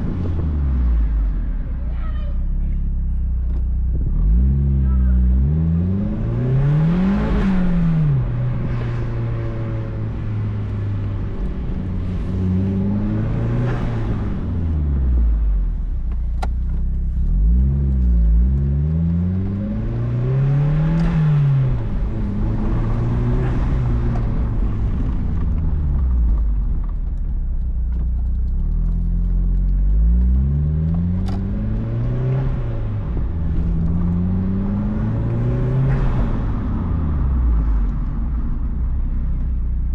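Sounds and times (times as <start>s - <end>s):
car engine accelerating and shifting: 0.0s - 39.9s.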